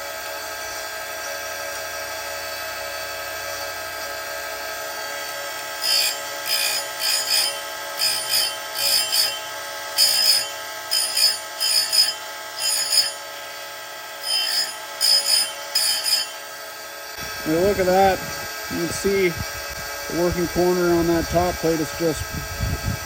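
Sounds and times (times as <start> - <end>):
grinder motor running: 0.0 - 23.0
high-pitched grinding bursts: 3.4 - 23.0.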